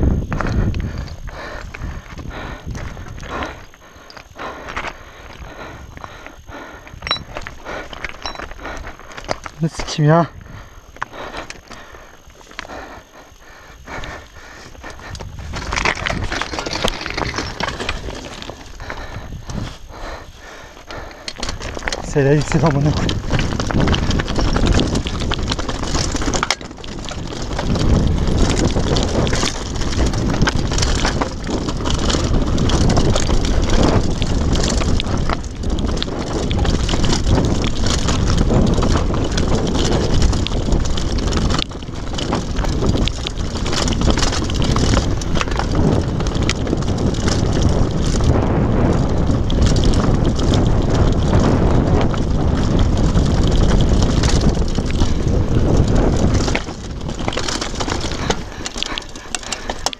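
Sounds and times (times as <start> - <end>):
bike rattling and knocking: 0.0 - 59.9
wind buffeting microphone: 0.0 - 59.9
tyres crunching on stones: 6.9 - 12.7, 14.7 - 59.9.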